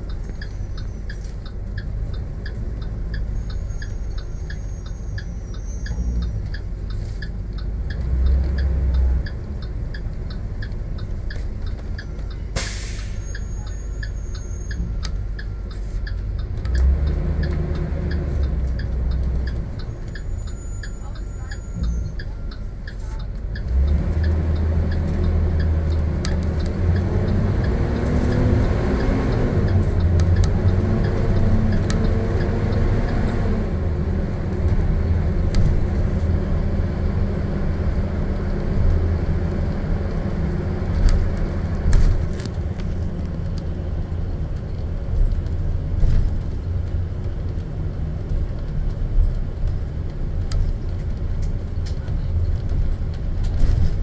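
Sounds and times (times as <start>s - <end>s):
bus engine rumbling: 0.0s - 54.0s
road noise: 0.0s - 54.0s.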